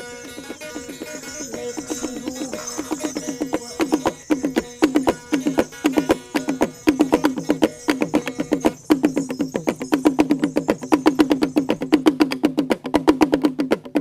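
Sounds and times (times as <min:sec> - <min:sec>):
struck woody pitched notes: 0:00.0 - 0:14.0.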